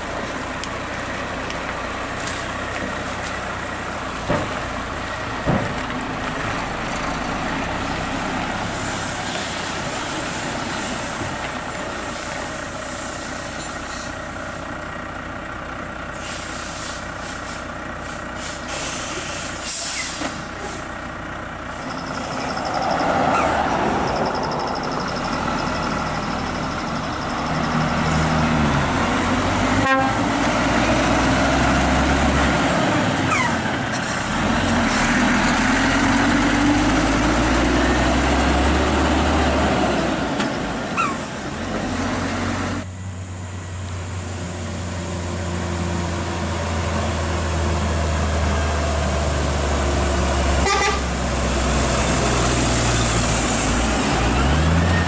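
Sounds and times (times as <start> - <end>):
heavy truck engine passing: 0.0 - 55.0.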